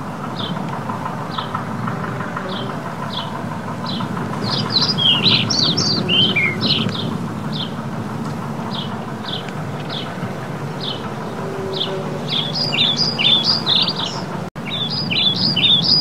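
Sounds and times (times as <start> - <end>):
bird calls and trills: 0.0 - 16.0
steady background hum: 0.0 - 16.0
small birds chirping: 0.3 - 16.0.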